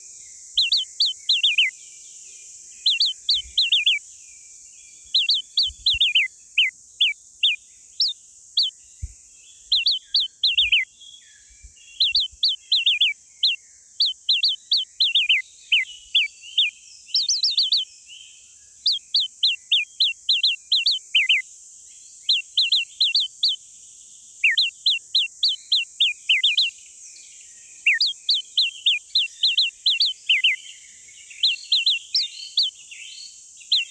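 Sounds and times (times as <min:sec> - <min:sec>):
small songbird chirping: 0:00.0 - 0:33.9
steady high-pitched hiss: 0:00.0 - 0:33.9.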